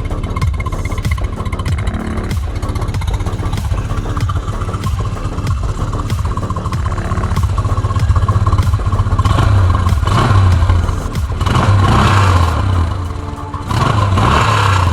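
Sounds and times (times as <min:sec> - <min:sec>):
moped engine revving: 0:00.0 - 0:14.9.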